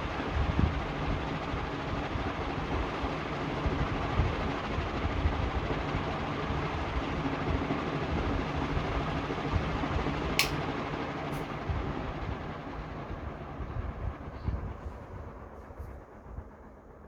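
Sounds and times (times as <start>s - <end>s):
ceiling fan whoosh: 0.0s - 17.0s
faint motor hum: 0.0s - 17.0s.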